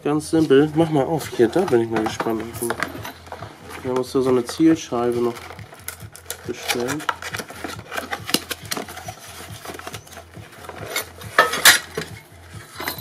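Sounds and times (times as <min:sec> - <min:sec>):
cardboard and plastic rustling: 0:00.2 - 0:13.0.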